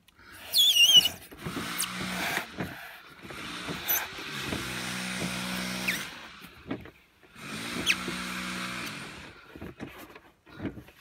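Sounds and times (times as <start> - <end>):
foam squeaking and creaking: 0.2 - 11.0.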